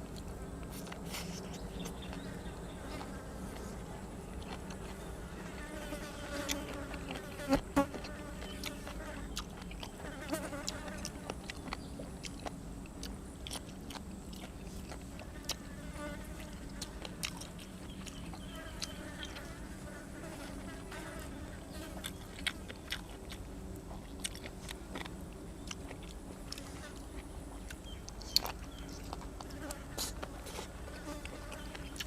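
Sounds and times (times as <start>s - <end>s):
person chewing crunchy food: 0.0s - 19.6s, 21.0s - 32.0s.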